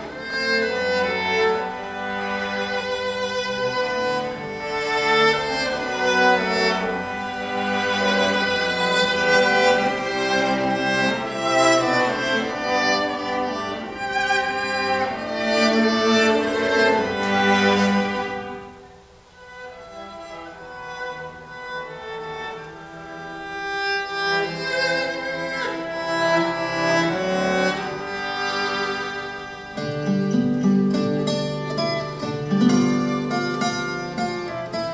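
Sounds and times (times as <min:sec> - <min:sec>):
cellos playing bowed chords: 0:00.0 - 0:34.9.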